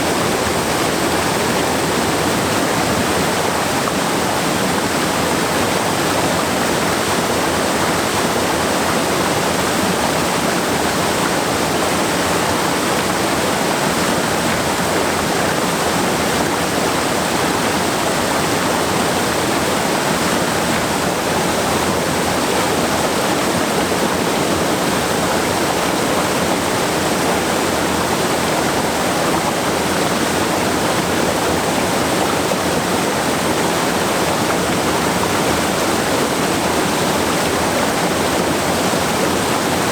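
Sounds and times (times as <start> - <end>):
stream cascading over rocks: 0.0 - 39.9.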